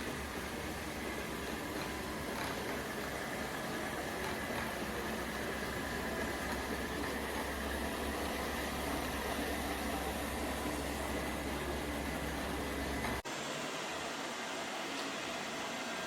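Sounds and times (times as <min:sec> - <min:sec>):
robot vacuum cleaner whirring: 0:00.0 - 0:16.0.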